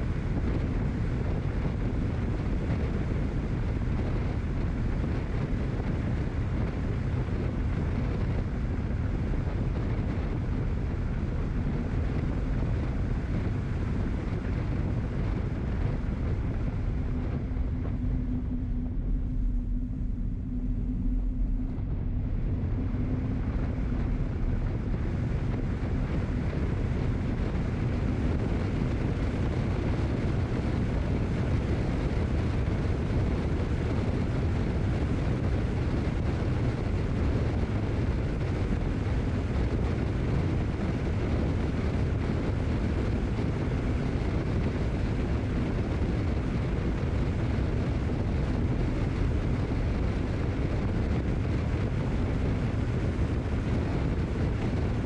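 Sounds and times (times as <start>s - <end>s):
low steady hum: 0.0s - 55.0s
wind on microphone: 0.0s - 55.0s.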